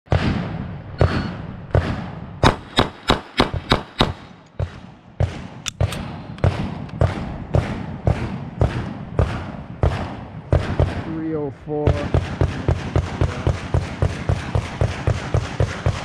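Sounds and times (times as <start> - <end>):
distant gunshots on range: 0.1 - 16.0
rapid pistol shots: 0.1 - 16.0.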